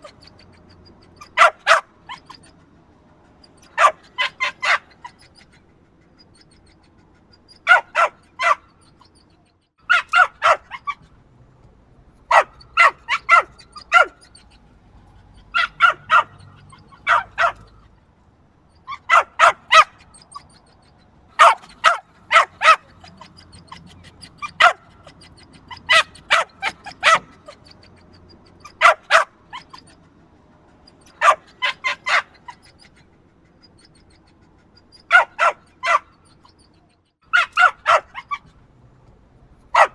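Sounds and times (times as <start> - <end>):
small dog yapping: 0.0 - 2.6, 3.3 - 11.1, 12.3 - 17.9, 18.8 - 30.1, 30.7 - 38.6.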